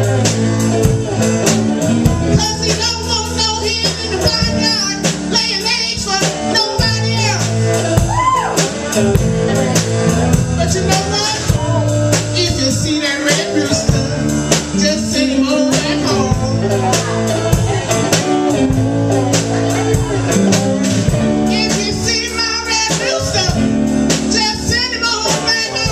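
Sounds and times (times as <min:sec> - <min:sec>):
bass: 0:00.0 - 0:25.9
guitar: 0:00.0 - 0:25.9
person singing: 0:00.0 - 0:25.9
steady drum beats: 0:00.0 - 0:25.9.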